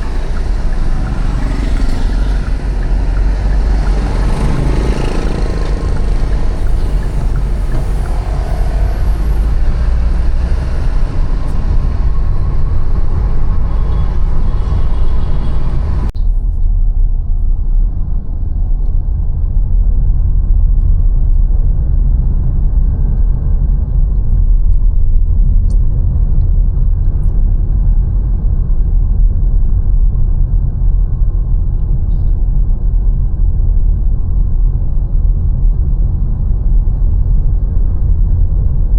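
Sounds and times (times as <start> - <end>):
city traffic rumble: 0.0 - 38.9
wind on microphone: 0.0 - 38.9.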